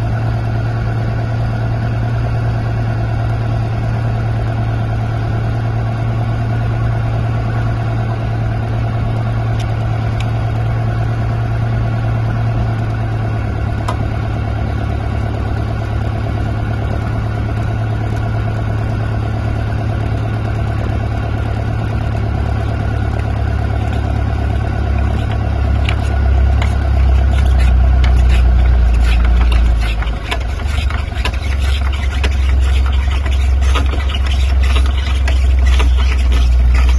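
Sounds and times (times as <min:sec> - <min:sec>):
engine running: 0:00.0 - 0:36.9.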